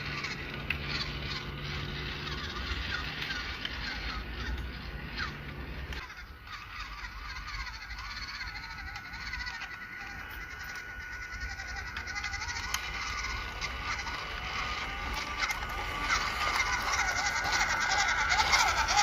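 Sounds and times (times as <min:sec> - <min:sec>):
steady high whine: 0:00.0 - 0:19.0
wavering animal calls: 0:00.0 - 0:19.0.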